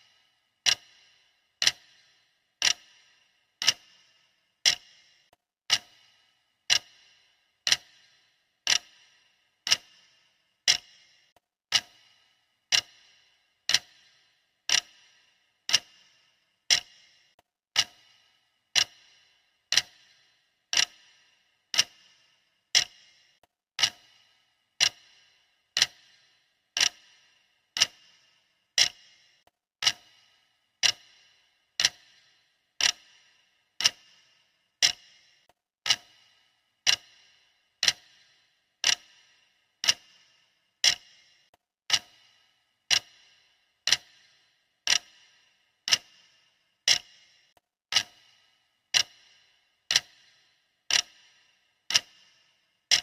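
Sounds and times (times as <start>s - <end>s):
clock ticking: 0.0s - 53.0s.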